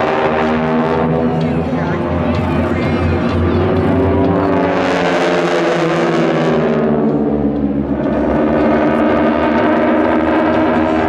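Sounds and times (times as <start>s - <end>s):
radial engine aircraft droning: 0.0s - 11.0s.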